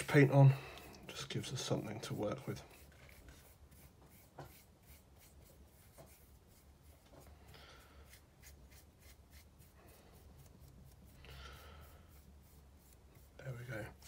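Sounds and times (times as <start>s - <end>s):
paintbrush strokes on wood: 0.0s - 14.0s.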